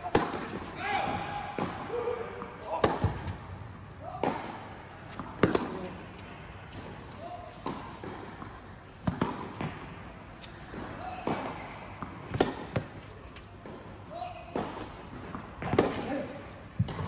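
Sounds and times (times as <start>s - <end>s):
tennis ball bouncing: 0.0s - 16.1s, 16.8s - 17.0s
racket striking tennis ball: 0.0s - 16.2s.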